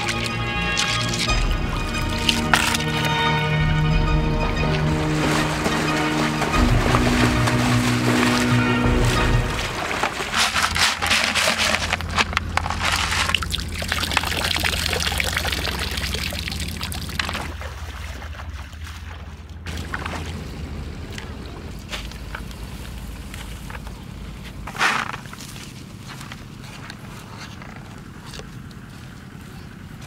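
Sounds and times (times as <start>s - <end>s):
river water splashing: 0.0s - 30.0s.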